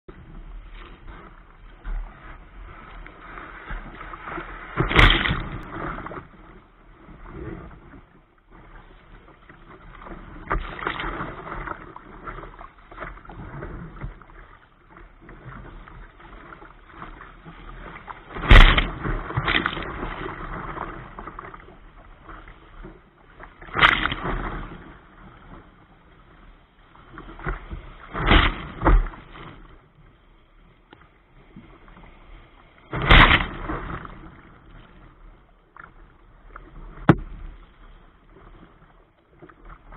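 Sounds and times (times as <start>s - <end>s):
churning water: 0.1s - 29.9s, 31.4s - 39.9s
waves splashing against hull: 0.1s - 39.9s.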